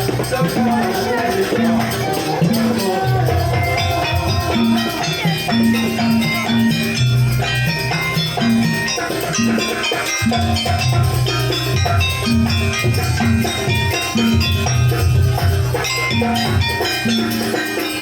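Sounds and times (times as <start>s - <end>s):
drums: 0.0s - 18.0s
ringing tuned metal percussion: 0.0s - 18.0s.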